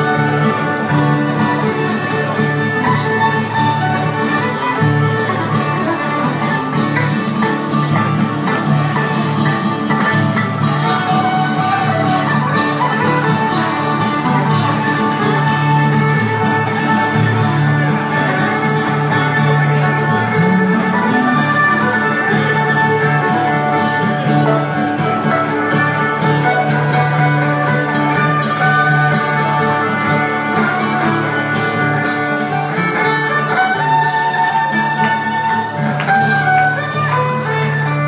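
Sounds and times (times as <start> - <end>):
acoustic guitar: 0.0 - 38.0
electric guitar: 0.0 - 38.0
fiddle: 0.0 - 38.0.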